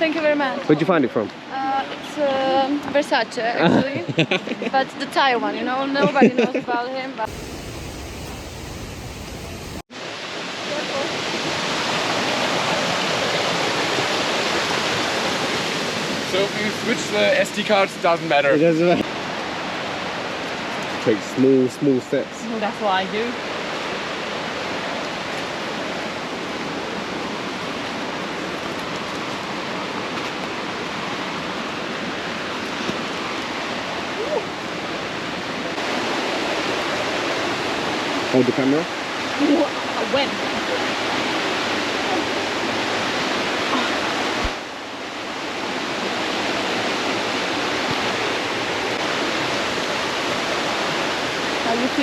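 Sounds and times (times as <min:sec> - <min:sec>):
flowing water rushing: 0:00.0 - 0:52.0.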